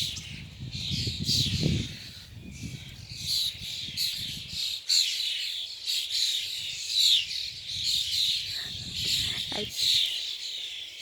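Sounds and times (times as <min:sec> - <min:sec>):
flock of small birds chirping: 0:00.0 - 0:11.0.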